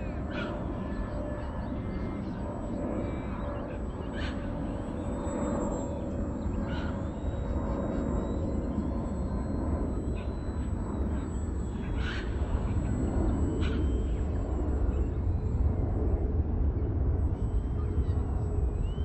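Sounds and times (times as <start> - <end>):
model airplane motor droning: 0.0 - 16.2.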